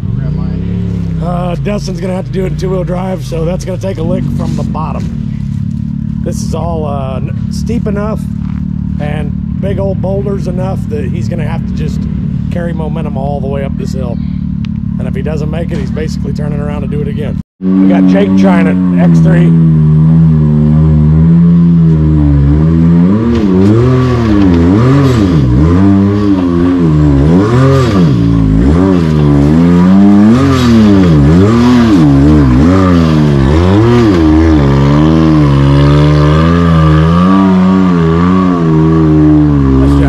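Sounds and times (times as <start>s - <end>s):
off-road vehicle engine revving: 0.0s - 40.0s.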